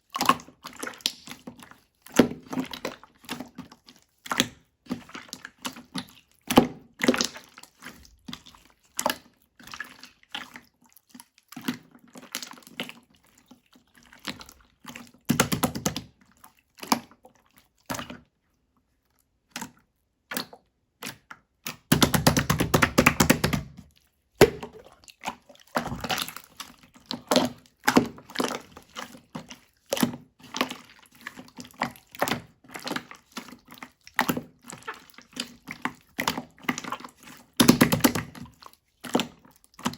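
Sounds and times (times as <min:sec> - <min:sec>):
slime squishing: 0:00.0 - 0:39.9.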